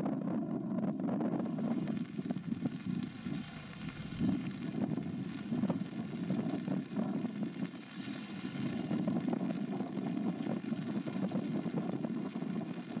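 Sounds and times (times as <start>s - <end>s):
wind on microphone: 0.0s - 13.0s
rain falling: 1.0s - 13.0s.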